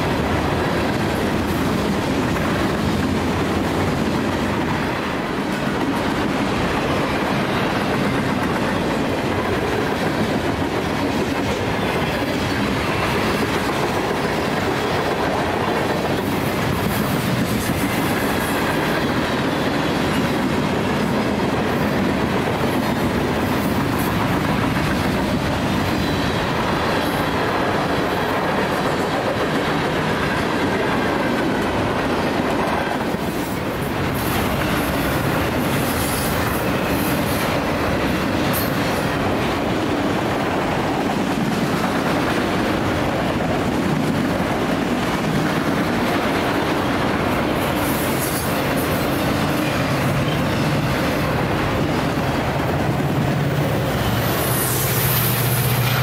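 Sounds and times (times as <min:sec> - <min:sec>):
steel wheels rolling on rails: 0:00.0 - 0:56.0.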